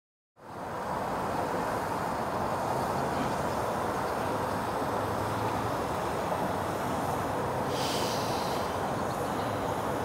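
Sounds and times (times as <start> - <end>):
outdoor background hiss and rumble: 0.4 - 10.0.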